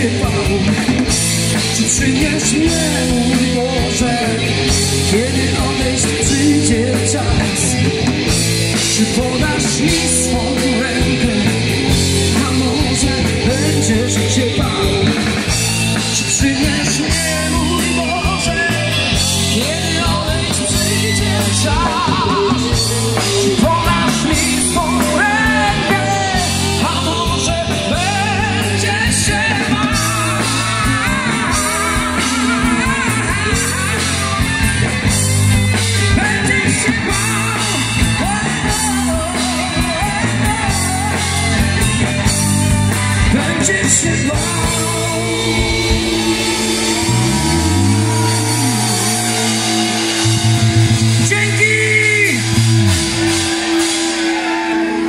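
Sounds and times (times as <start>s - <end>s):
person singing: 0.0s - 7.9s, 8.7s - 52.6s
bass guitar: 0.0s - 55.0s
drum kit: 0.0s - 55.0s
electric guitars: 0.0s - 55.0s.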